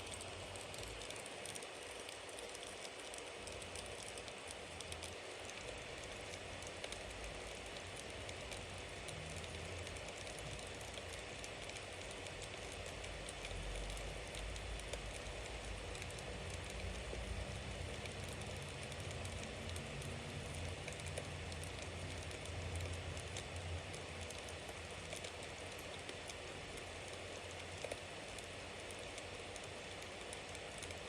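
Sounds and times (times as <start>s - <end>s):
fire crackles and pops: 0.0s - 31.0s.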